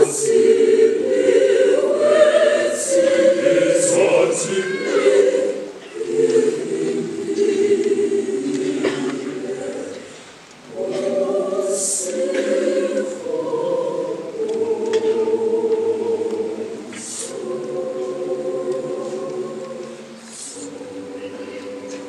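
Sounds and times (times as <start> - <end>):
choir singing held chords: 0.0 - 22.0.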